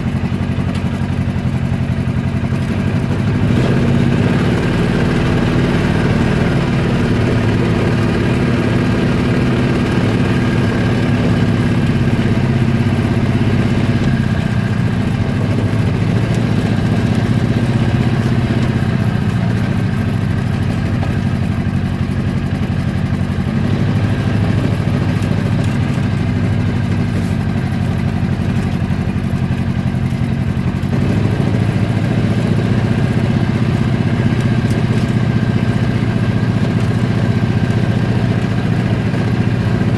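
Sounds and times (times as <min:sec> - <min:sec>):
engine running at low revs: 0:00.0 - 0:39.9.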